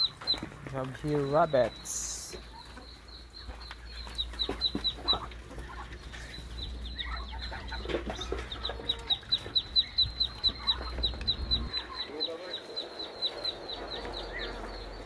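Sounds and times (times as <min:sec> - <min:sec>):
poultry clucking: 0:00.0 - 0:15.0
high falling peeps: 0:01.1 - 0:15.0.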